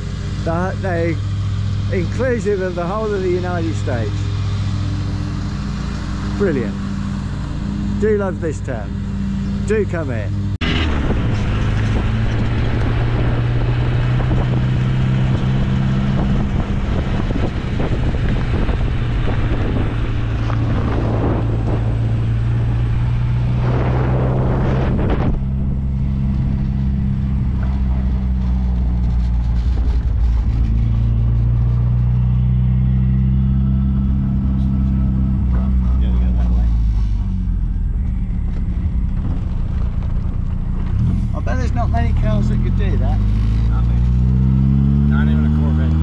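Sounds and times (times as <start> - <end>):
car engine cruising: 0.0 - 46.0
wind and road noise: 0.0 - 46.0.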